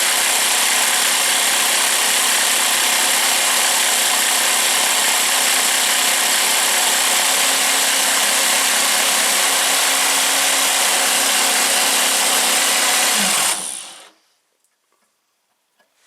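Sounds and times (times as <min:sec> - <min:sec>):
scroll saw whining: 0:00.0 - 0:14.2.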